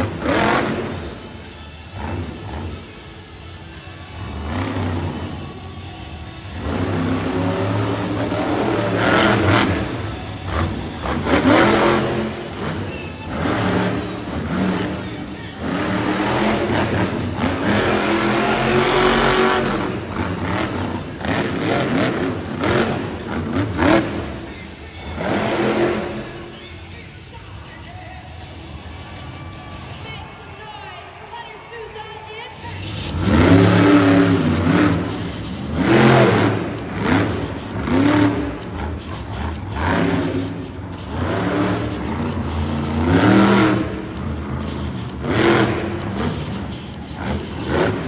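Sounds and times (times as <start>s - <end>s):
truck engine revving hard: 0.0s - 2.9s, 4.2s - 5.5s, 6.5s - 26.5s, 32.8s - 48.0s.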